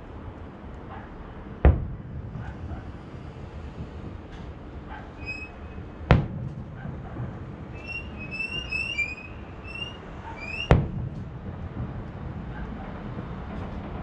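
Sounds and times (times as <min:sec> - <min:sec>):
low city rumble: 0:00.0 - 0:14.0
distant firework booms: 0:01.6 - 0:14.0.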